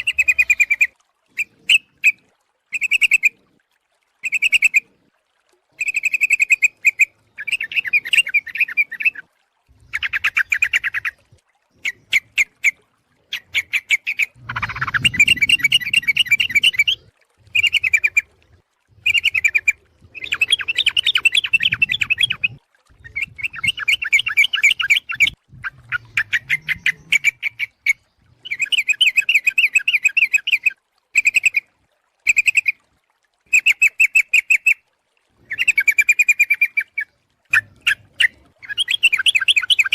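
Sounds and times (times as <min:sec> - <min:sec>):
bird bubbly chattering calls: 0:00.0 - 0:03.4, 0:04.2 - 0:04.8, 0:05.8 - 0:18.4, 0:19.0 - 0:31.7, 0:35.4 - 0:39.9.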